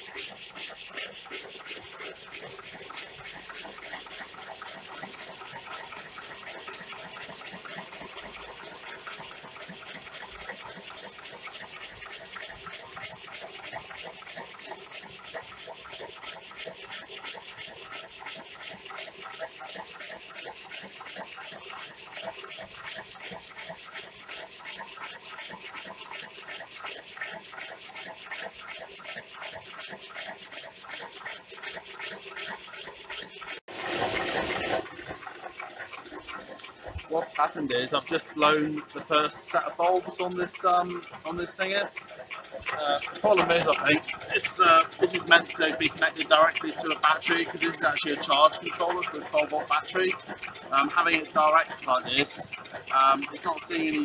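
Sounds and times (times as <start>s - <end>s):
stirling engine clattering: 0.0s - 54.0s.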